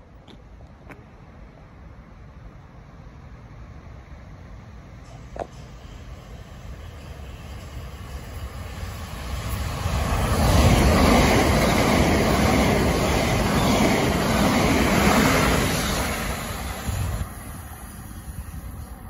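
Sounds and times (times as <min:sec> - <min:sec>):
train passing at speed: 0:00.7 - 0:19.0.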